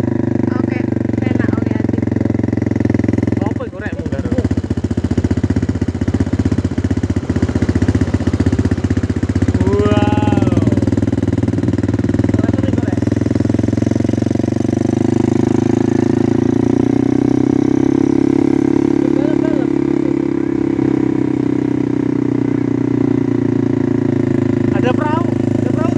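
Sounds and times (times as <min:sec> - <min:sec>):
quad bike engine running: 0:00.0 - 0:25.9.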